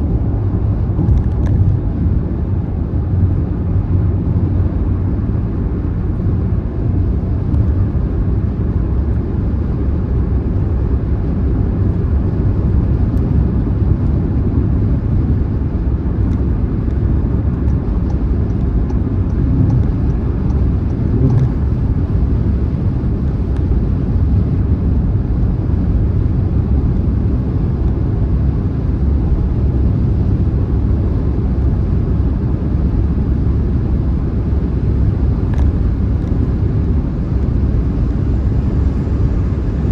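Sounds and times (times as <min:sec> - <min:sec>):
car engine droning: 0:00.0 - 0:39.9
road and tyre noise: 0:00.0 - 0:39.9.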